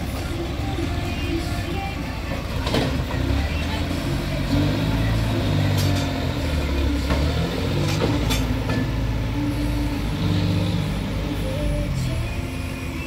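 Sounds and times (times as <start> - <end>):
diesel tractor engine under load: 0.0 - 13.0.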